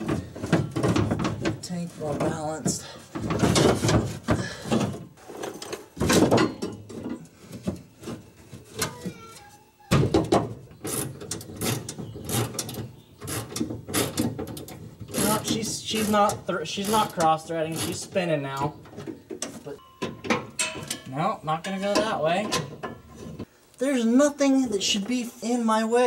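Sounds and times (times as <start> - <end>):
metal knocks clanks and scrapes: 0.0 - 9.2, 9.9 - 23.5.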